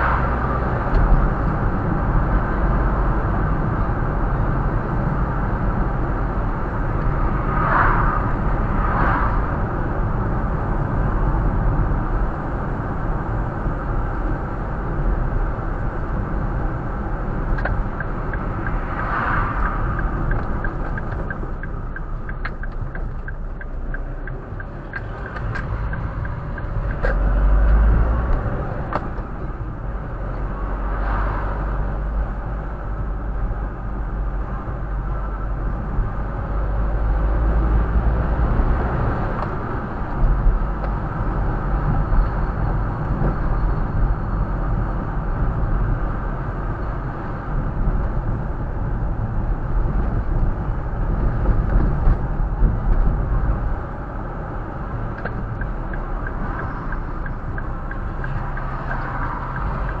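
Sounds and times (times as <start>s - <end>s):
car engine rumbling: 0.0s - 60.0s
road noise: 0.0s - 60.0s.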